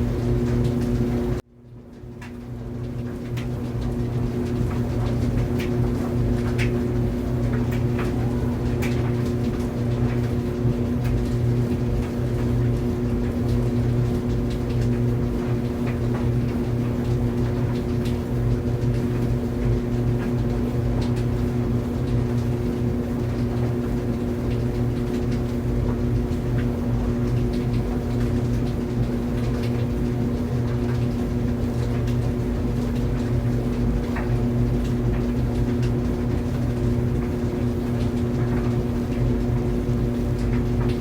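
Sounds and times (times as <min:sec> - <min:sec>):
dryer motor and drum hum: 0:00.0 - 0:41.0.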